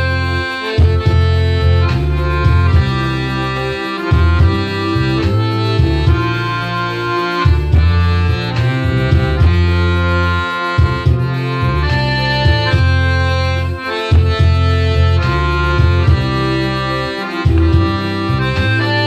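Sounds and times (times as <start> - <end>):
piano accordion playing: 0.0 - 19.0.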